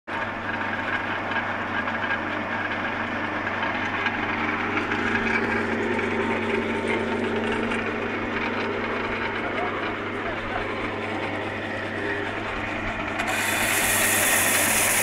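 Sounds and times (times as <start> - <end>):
belt and disc sander running: 0.1 - 15.0.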